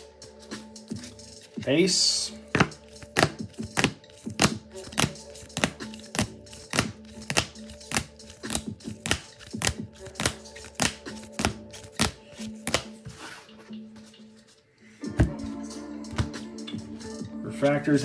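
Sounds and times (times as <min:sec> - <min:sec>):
background music with low tone: 0:00.0 - 0:18.0.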